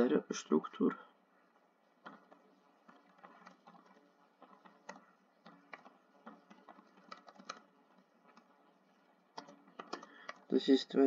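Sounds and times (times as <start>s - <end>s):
faint keyboard typing: 1.5s - 11.0s.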